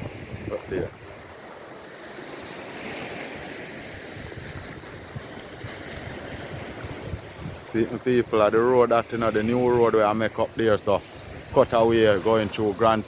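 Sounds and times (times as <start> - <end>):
wind rumbling on microphone: 0.0 - 1.8, 2.6 - 13.0
sea waves washing on shore: 0.0 - 13.0.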